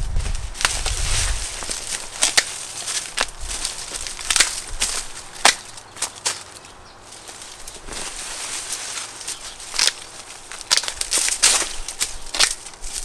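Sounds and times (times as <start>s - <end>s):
dry leaves rustling: 0.0s - 13.0s
dry stalks snapping: 0.0s - 13.0s.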